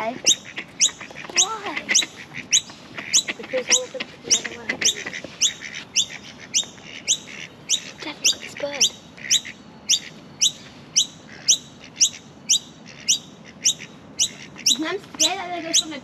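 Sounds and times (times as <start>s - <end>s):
lorikeet chirping: 0.0s - 16.0s.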